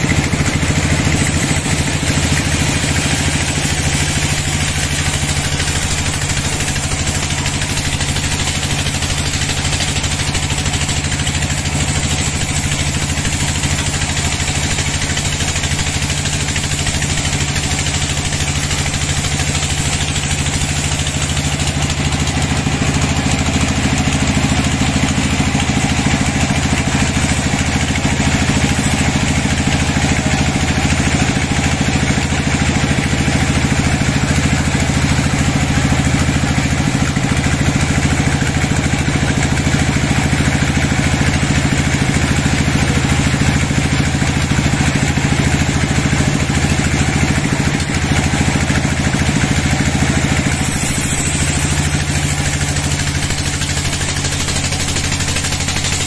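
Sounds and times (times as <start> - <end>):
saw blade hissing through wood: 0.0 - 56.0
sawmill machine hum: 0.0 - 56.0.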